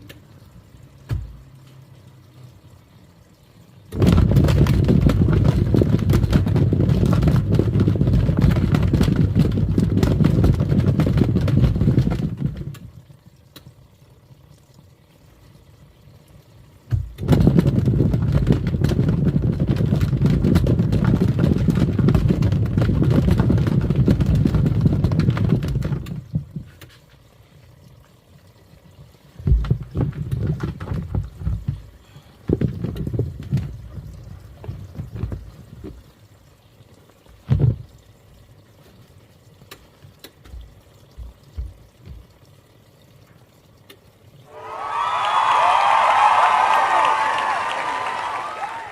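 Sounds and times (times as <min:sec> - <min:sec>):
washing machine churning water: 0:00.0 - 0:45.4.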